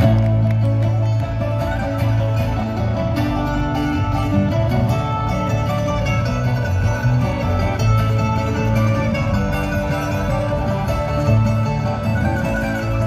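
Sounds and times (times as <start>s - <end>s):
bluegrass band playing: 0.0s - 13.0s.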